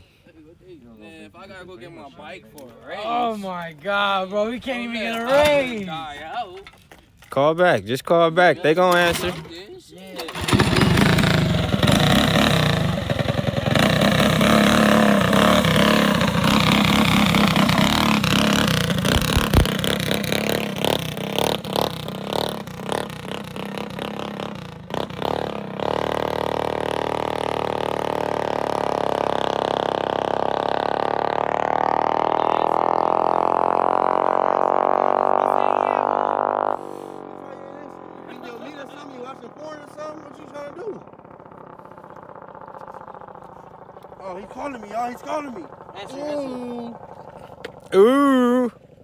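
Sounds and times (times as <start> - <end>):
minibike engine revving: 8.7 - 9.6, 10.2 - 49.0.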